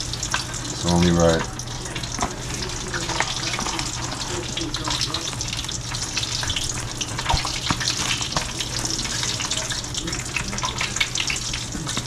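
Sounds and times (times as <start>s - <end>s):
frying grease sizzling: 0.0s - 12.0s.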